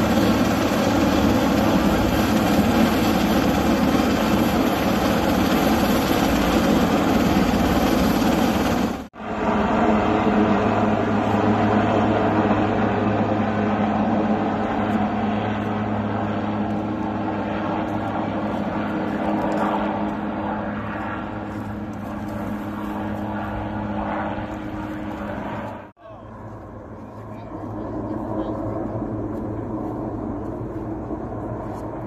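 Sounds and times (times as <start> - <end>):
helicopter rotor and engine drone: 0.0 - 32.0.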